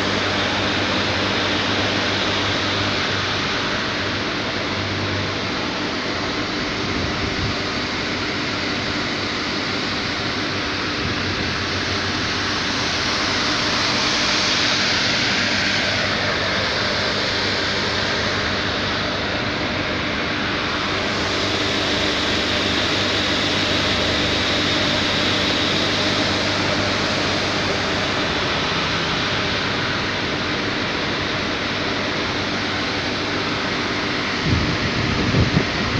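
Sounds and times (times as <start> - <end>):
boiler machinery rushing noise: 0.0 - 35.9
low machinery hum: 0.0 - 35.9.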